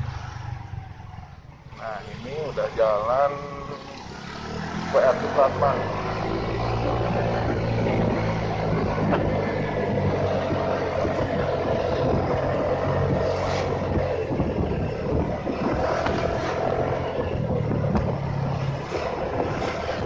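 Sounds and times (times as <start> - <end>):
motorcycle engine running: 0.0 - 20.0
wind rushing over microphone: 1.8 - 20.0.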